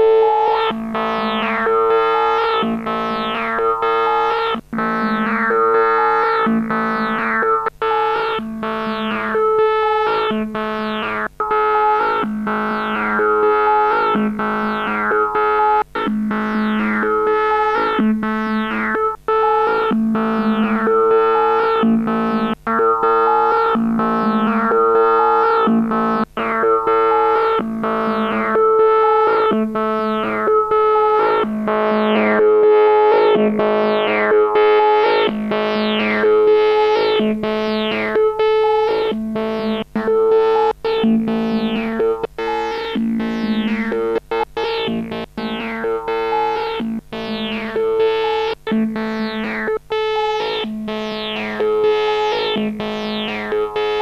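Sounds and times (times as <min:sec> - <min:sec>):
synthesizer short repeating notes: 0:00.0 - 0:54.0.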